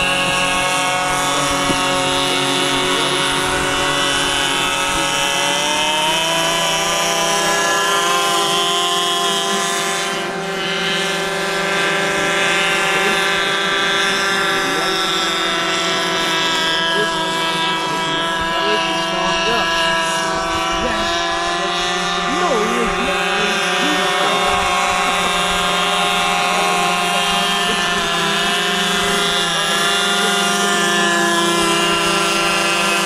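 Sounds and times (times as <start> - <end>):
model airboat engine drone: 0.0 - 33.0.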